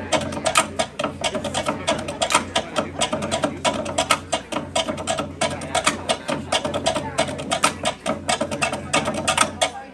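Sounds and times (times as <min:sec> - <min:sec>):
dance music with wooden drums: 0:00.0 - 0:09.9.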